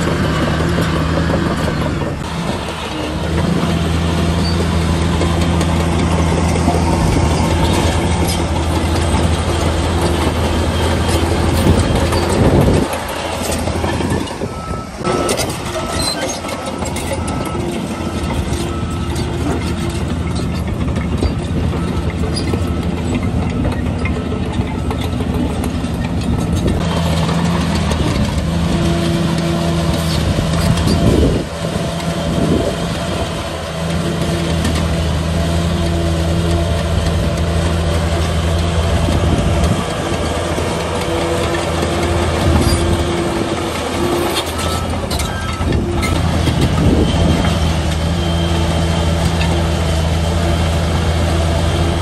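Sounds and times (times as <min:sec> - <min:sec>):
bulldozer diesel engine: 0:00.0 - 0:52.0.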